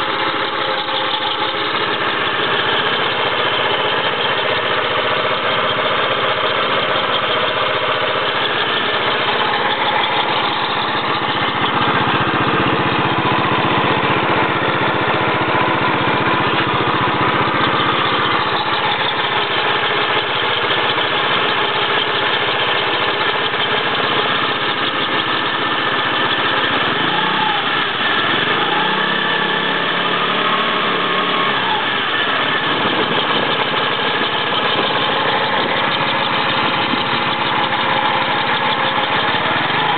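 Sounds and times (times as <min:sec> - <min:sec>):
machine with faulty bearing: 0:00.0 - 0:39.9.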